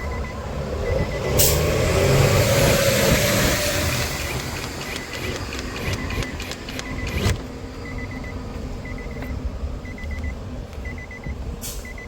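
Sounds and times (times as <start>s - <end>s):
car warning chime beeping: 0.0s - 1.6s, 3.8s - 12.0s.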